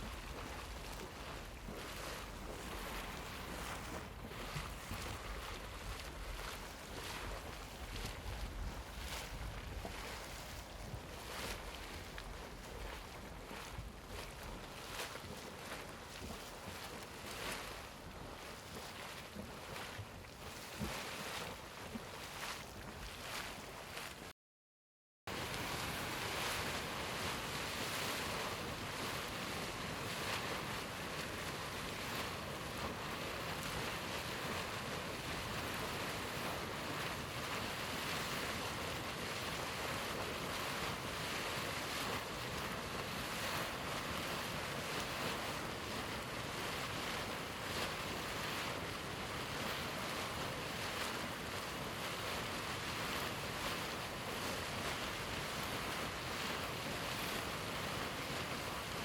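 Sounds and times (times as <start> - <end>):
boiling water bubbling: 0.0 - 24.2, 25.3 - 59.0.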